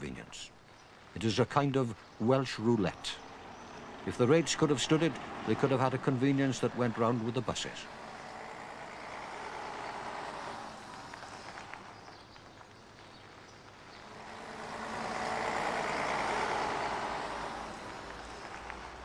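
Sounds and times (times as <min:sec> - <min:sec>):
street traffic: 0:00.0 - 0:19.0
bus engine passing: 0:02.6 - 0:12.4, 0:13.0 - 0:19.0.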